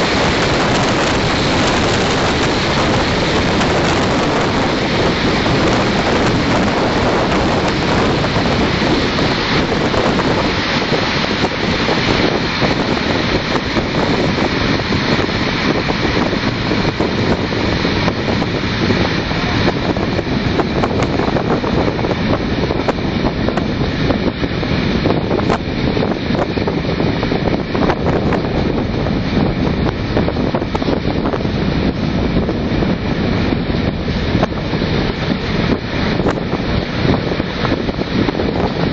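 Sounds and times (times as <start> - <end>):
steam train running: 0.0 - 38.9
wind buffeting microphone: 0.0 - 38.9.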